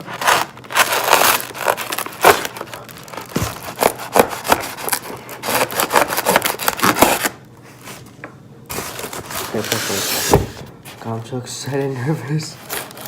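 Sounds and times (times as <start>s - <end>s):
packaging rustling and crinkling: 0.0s - 8.1s, 8.7s - 11.2s, 12.6s - 13.0s.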